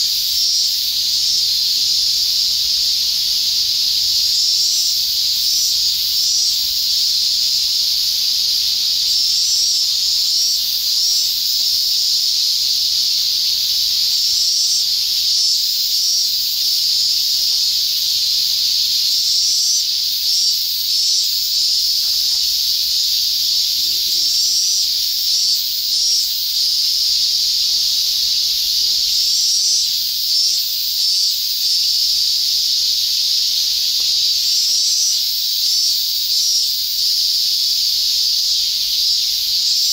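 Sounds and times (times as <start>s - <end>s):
high-pitched hiss: 0.0s - 39.9s.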